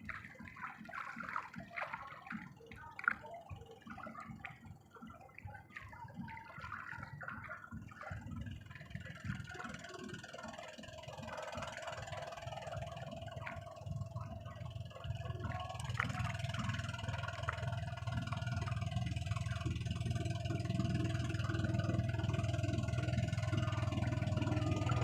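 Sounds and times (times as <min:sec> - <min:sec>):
faint steady hum: 0:00.0 - 0:25.0
water sloshing and dripping: 0:00.0 - 0:25.0.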